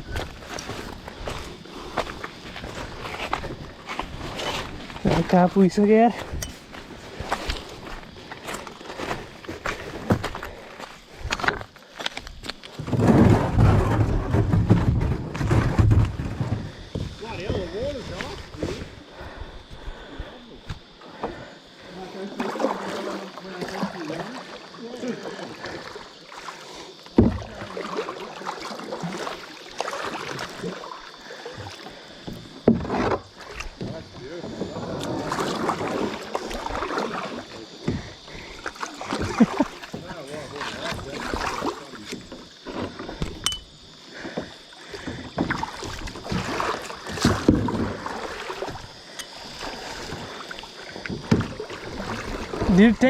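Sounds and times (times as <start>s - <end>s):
paddle splashing in water: 0.0s - 11.6s, 20.7s - 53.0s.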